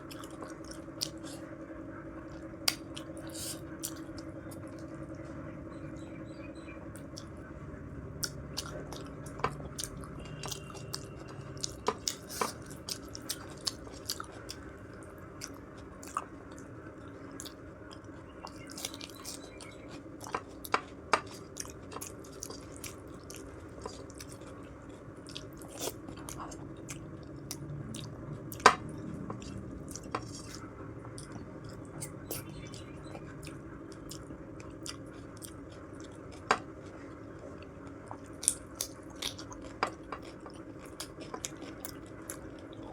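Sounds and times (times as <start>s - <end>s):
person chewing food: 0.0s - 1.6s, 2.2s - 5.3s, 7.0s - 7.4s, 8.2s - 42.9s
steady low hum: 0.0s - 42.9s.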